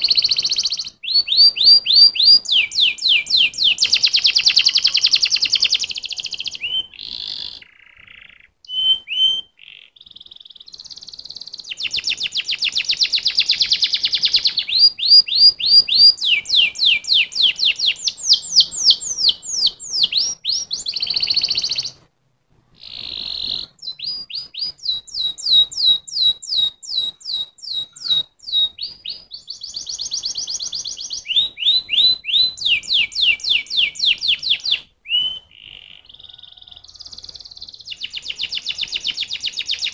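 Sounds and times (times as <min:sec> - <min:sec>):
canary singing trills: 0:00.0 - 0:22.1, 0:22.8 - 0:39.9.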